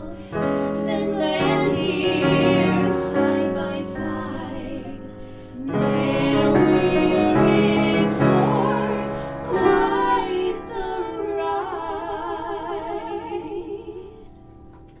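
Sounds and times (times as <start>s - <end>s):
person singing: 0.0s - 14.3s
piano accompaniment: 0.0s - 15.0s.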